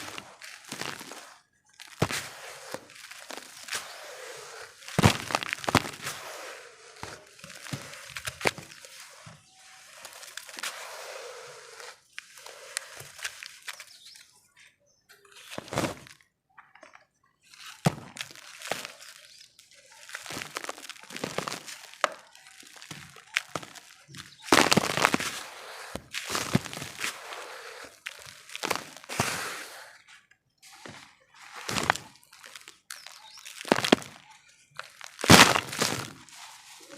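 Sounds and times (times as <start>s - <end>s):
dirt lumps crumbling and crunching: 0.0s - 14.3s, 15.3s - 36.9s.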